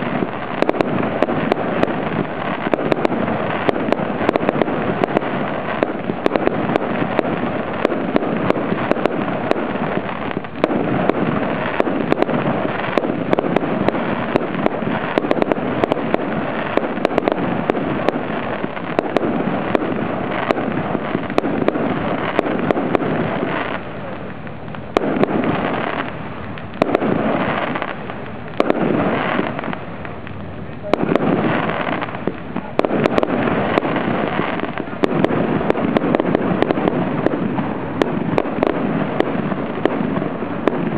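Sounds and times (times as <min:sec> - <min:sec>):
fireworks crackling: 0:00.0 - 0:40.9
fireworks sharp bangs: 0:00.0 - 0:40.9.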